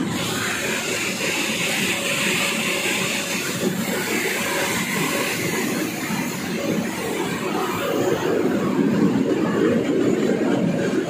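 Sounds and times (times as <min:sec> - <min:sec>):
bottling machinery rumbling: 0:00.0 - 0:11.0.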